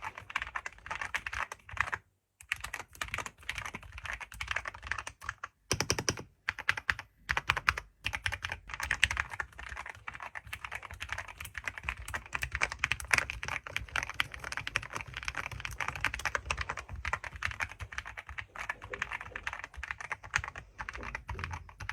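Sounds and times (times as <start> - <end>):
fast typing on keyboard: 0.0 - 21.9.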